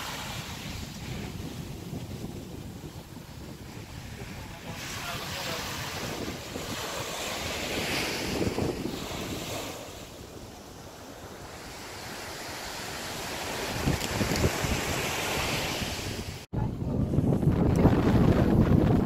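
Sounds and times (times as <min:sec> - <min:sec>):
small waves breaking on beach: 0:00.0 - 0:16.5
wind rumbling on microphone: 0:00.0 - 0:19.0.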